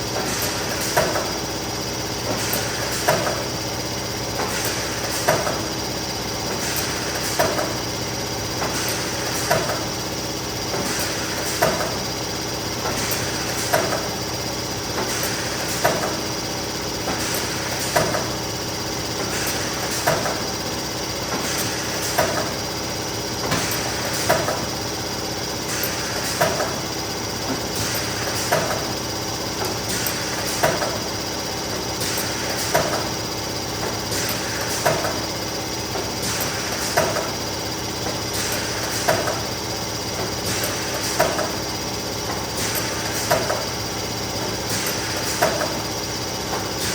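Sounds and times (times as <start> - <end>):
laminating machine humming: 0.0 - 46.9.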